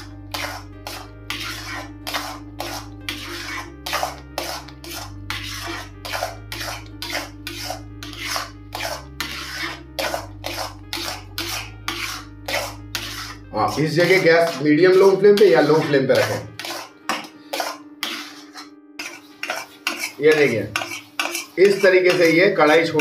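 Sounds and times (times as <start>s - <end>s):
soft background music: 0.0s - 23.0s
spatula scraping in a pan: 0.0s - 23.0s.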